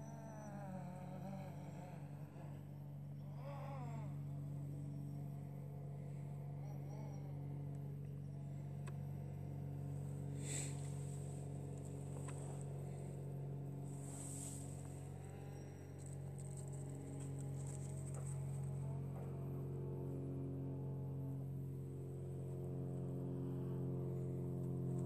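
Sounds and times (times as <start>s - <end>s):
motor hum with buzz: 0.0s - 25.0s.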